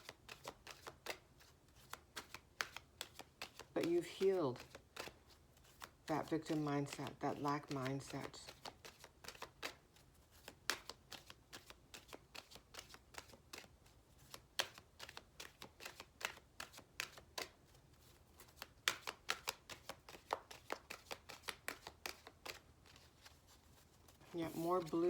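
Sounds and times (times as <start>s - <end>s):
cards being shuffled: 0.0s - 25.0s.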